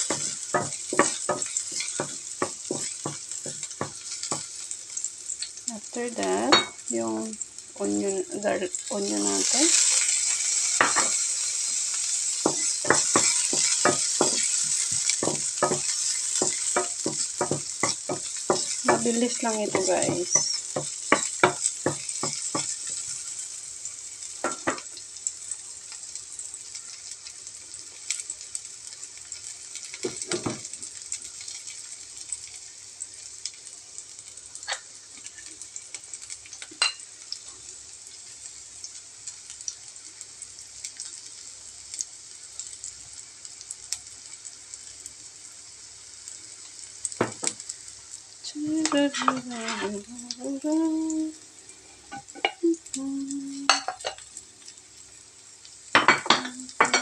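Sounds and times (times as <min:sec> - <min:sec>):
garlic and onion sizzling in oil: 0:00.0 - 0:57.0.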